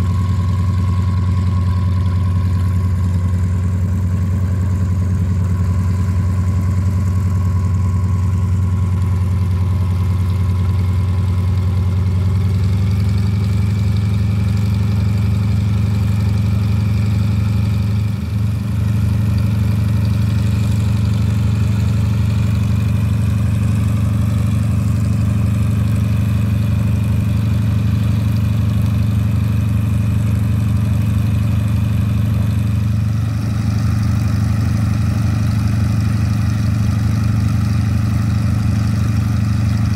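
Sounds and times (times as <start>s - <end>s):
radial engine idling: 0.0s - 39.9s.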